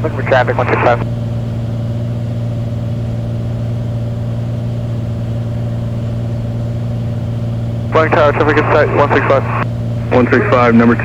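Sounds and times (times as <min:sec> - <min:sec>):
light aircraft engine drone: 0:00.0 - 0:11.0.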